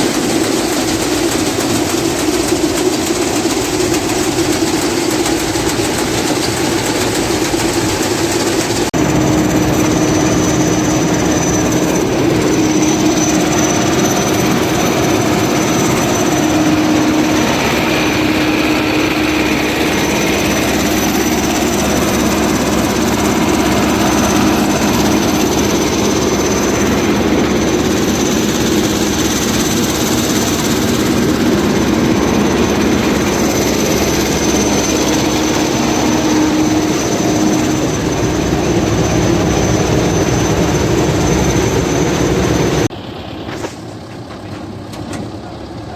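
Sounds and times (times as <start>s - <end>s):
combine harvester engine and machinery: 0.0s - 45.9s.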